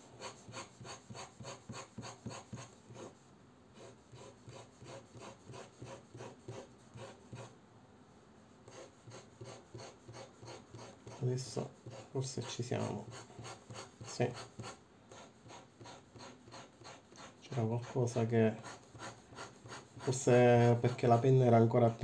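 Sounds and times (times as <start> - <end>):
pen nib scratching paper: 0.2 - 3.1, 3.8 - 7.5, 8.7 - 22.0.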